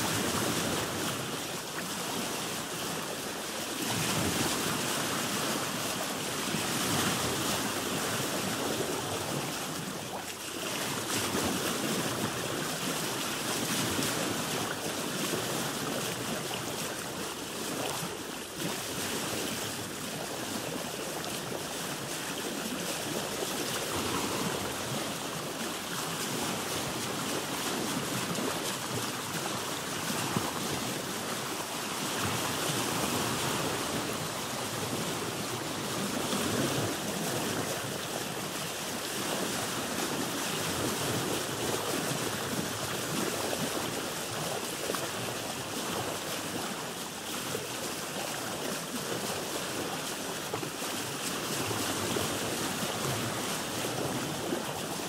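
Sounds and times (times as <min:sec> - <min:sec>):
water sloshing against a hull: 0:00.0 - 0:55.0.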